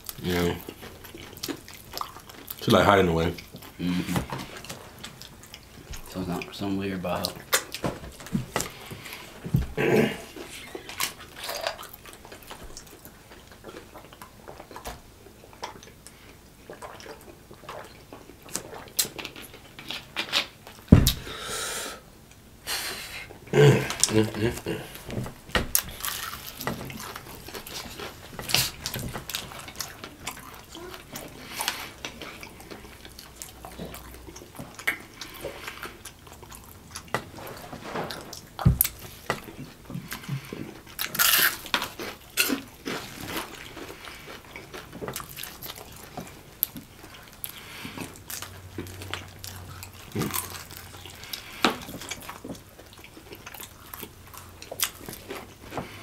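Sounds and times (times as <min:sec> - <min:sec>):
wet chewing and lip smacks: 0:00.0 - 0:06.6, 0:10.4 - 0:21.2, 0:25.7 - 0:37.3, 0:38.3 - 0:56.0.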